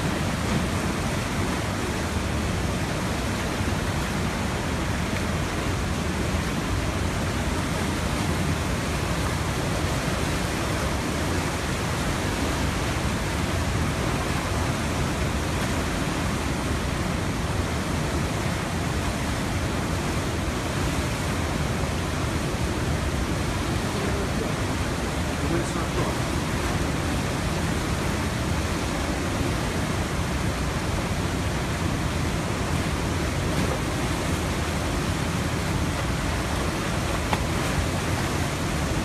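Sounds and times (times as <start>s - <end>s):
rushing floodwater: 0.0s - 39.0s.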